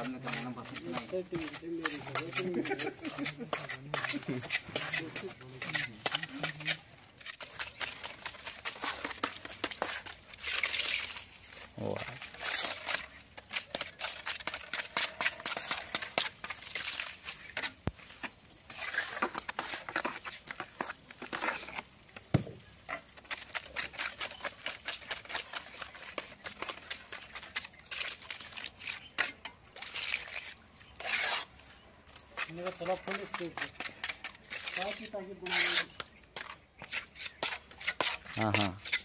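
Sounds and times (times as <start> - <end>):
trowel scraping wet plaster: 0.0 - 39.0.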